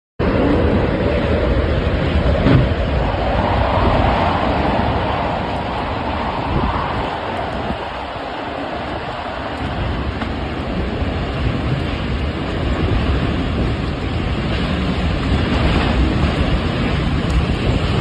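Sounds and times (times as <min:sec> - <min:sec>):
wind buffeting microphone: 0:00.2 - 0:18.0.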